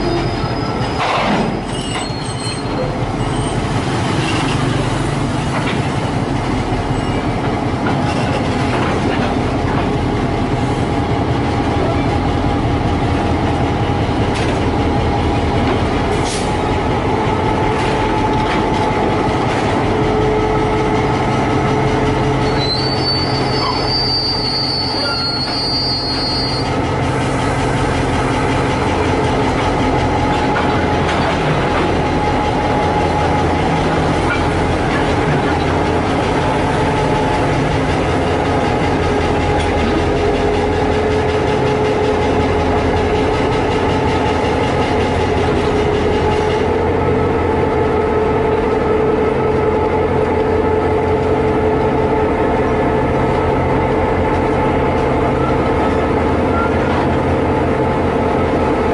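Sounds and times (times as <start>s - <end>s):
locomotive engines droning: 0.0s - 58.9s.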